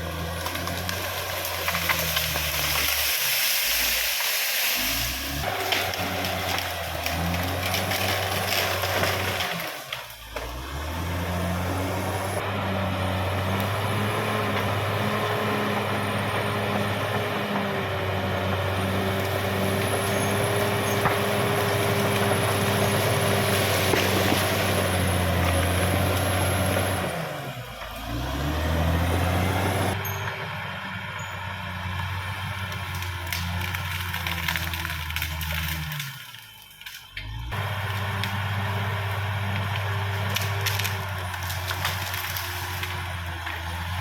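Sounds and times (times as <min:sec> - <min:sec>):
bulldozer diesel engine running: 0:00.0 - 0:04.0, 0:04.8 - 0:44.0.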